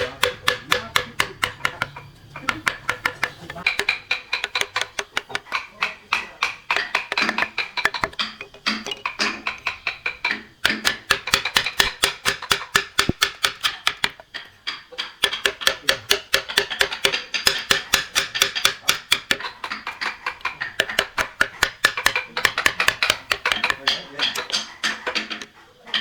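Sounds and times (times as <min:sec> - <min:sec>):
tool knocking on wood: 0:00.0 - 0:26.0.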